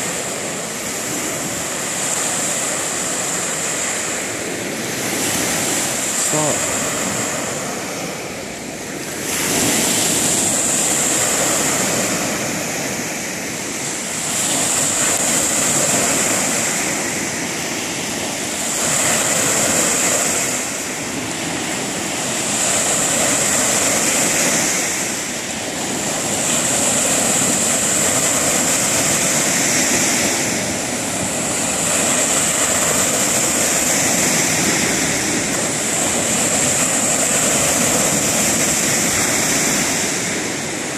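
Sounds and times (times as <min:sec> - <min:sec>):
surf breaking on sand beach: 0:00.0 - 0:40.9.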